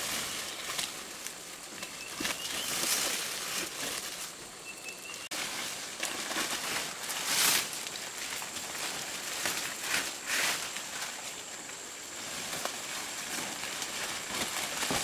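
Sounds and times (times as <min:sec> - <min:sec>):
palm fronds rustling and swishing: 0:00.0 - 0:15.0.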